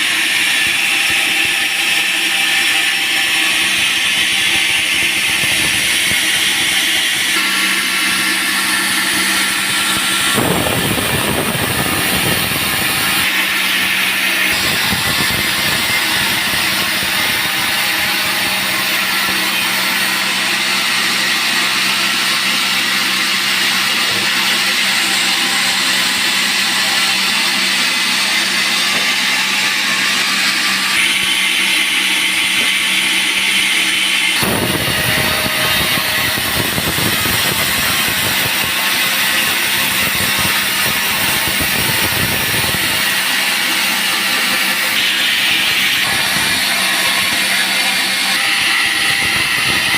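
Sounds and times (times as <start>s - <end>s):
saw hissing through log: 0.0s - 49.9s
sawmill machine drone: 0.0s - 49.9s.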